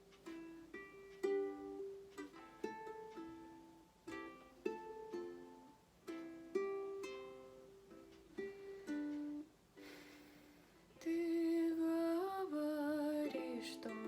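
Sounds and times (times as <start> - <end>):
ukulele picking: 0.0 - 10.4, 11.0 - 14.0.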